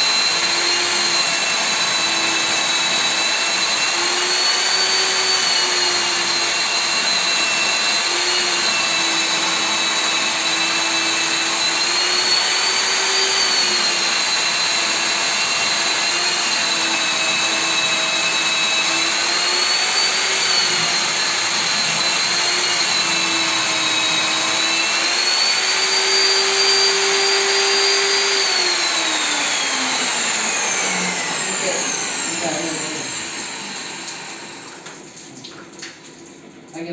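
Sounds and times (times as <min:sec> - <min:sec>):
electric core drill cutting: 0:00.0 - 0:34.9.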